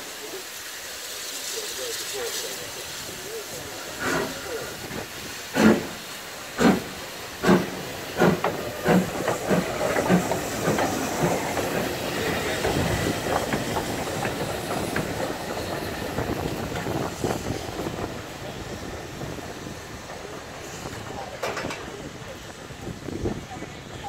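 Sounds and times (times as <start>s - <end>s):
steam locomotive exhaust chuffs: 0.0s - 23.4s
steam hissing: 0.0s - 24.0s.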